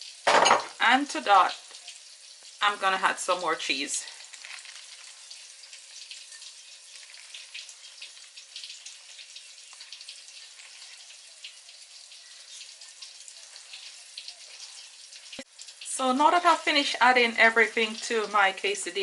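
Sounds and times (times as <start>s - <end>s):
food frying sizzle: 0.0s - 19.0s.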